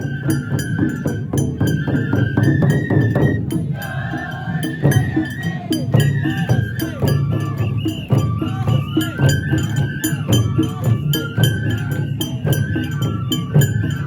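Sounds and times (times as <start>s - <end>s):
high flute melody: 0.0s - 14.0s
quick steady percussion: 0.0s - 14.0s.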